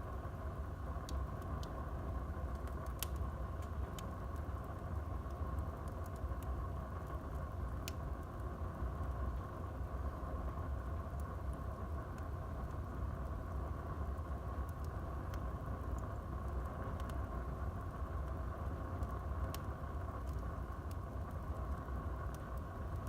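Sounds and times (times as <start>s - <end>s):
burning wood crackling: 0.0s - 23.0s
fire rumbling: 0.0s - 23.0s.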